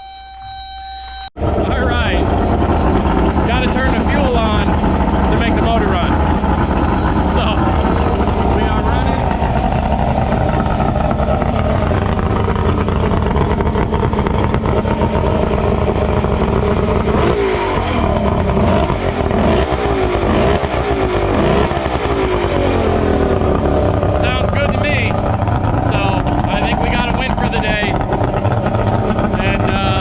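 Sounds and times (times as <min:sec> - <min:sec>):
outboard motor revving: 0:01.0 - 0:30.0.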